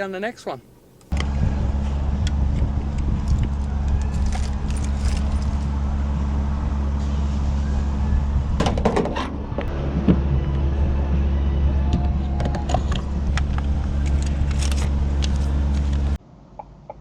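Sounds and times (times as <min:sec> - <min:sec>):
vehicle engine and road noise: 0:00.6 - 0:17.0.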